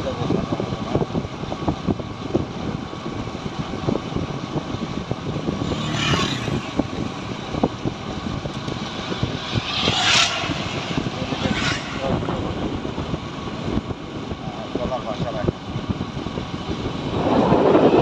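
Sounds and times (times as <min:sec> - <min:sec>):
motorcycle engine and road rumble: 0:00.0 - 0:18.0.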